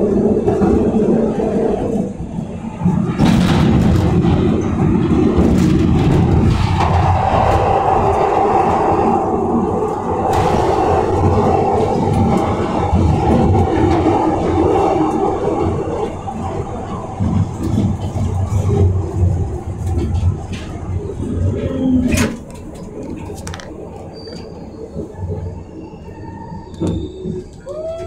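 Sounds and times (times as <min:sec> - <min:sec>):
steady train whine: 0:00.0 - 0:28.0
train wheels rumbling on rail: 0:00.0 - 0:28.0
train clatter: 0:02.8 - 0:25.6.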